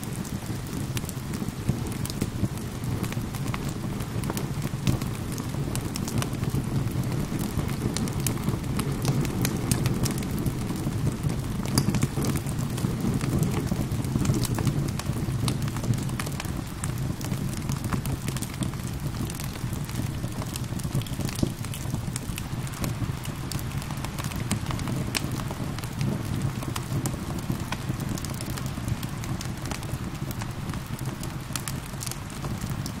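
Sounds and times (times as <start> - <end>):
gentle rain: 0.0 - 33.0
wood fire crackling: 0.0 - 33.0.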